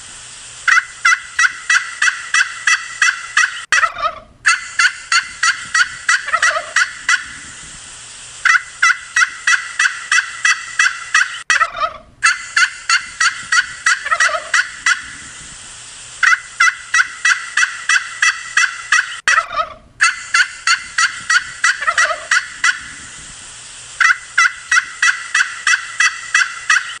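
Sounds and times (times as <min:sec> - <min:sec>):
turkeys gobbling: 0:00.7 - 0:07.5, 0:08.4 - 0:15.2, 0:16.2 - 0:23.1, 0:24.0 - 0:27.0.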